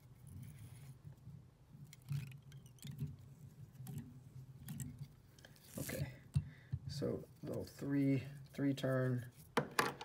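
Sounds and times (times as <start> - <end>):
thread and fingers rustling: 0.0 - 9.6.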